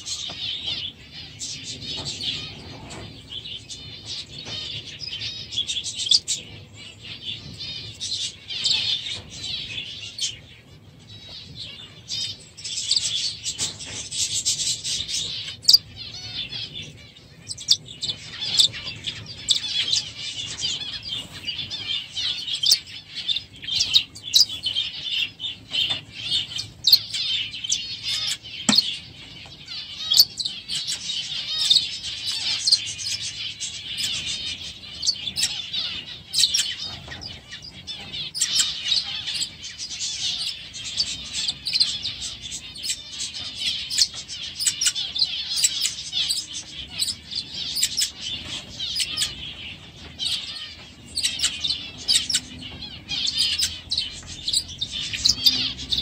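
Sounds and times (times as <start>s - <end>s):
flock of birds chirping: 0.0s - 56.0s.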